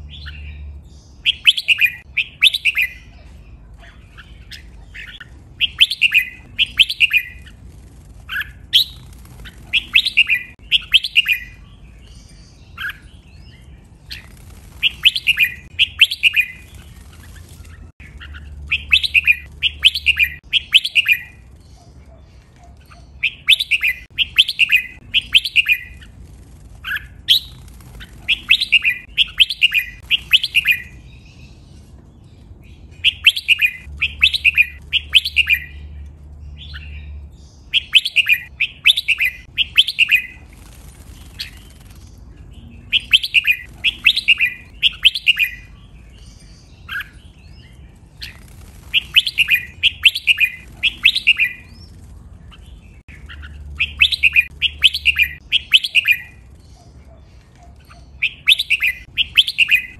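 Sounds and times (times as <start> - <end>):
bird singing: 0.0 - 59.9.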